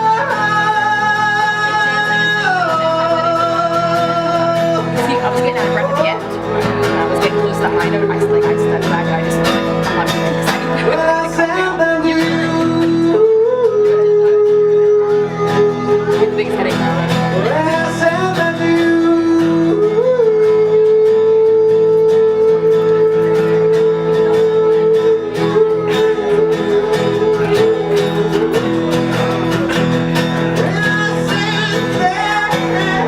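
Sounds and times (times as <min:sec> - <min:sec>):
guitar accompaniment: 0:00.0 - 0:33.0
person singing: 0:00.0 - 0:33.0.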